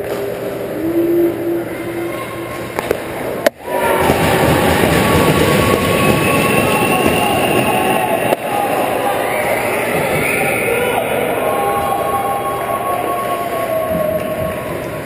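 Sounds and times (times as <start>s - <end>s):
arena noise: 0.0s - 15.0s.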